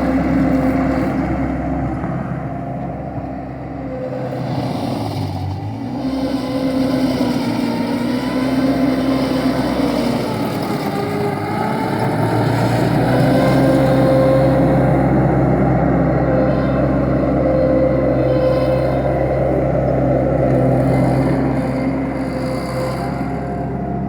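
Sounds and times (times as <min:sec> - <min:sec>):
skid steer engine running: 0:00.0 - 0:24.0.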